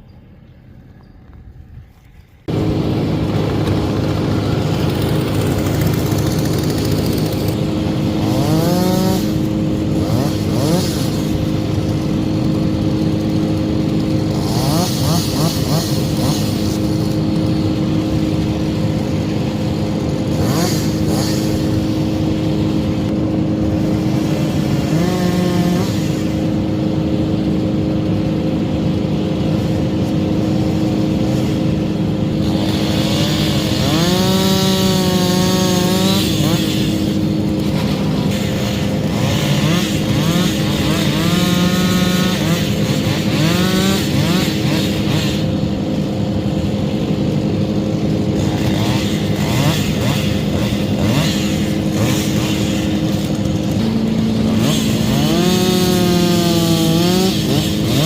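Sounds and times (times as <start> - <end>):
machinery droning: 0.0 - 58.0
chainsaw revving: 2.5 - 58.0.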